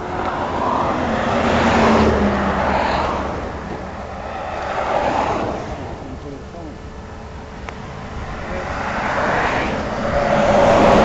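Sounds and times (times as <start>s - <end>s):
vehicles passing on highway: 0.0s - 11.0s.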